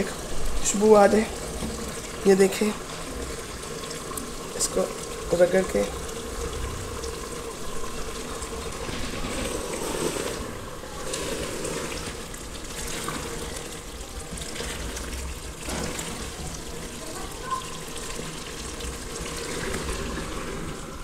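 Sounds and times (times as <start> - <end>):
curry sizzling and bubbling in pot: 0.0 - 21.0.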